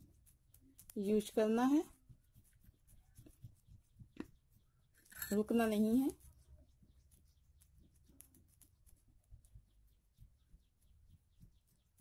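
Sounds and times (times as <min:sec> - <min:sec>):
fingers rubbing wet paste on skin: 0:00.0 - 0:12.0.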